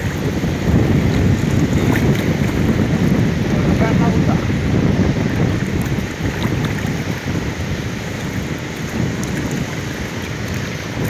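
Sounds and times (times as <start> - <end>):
water sloshing and splashing: 0.0 - 11.0
wind rumbling on microphone: 0.0 - 11.0.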